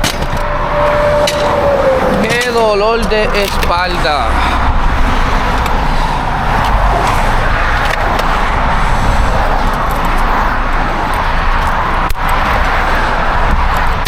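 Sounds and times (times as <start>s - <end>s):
road traffic going by: 0.0s - 14.0s.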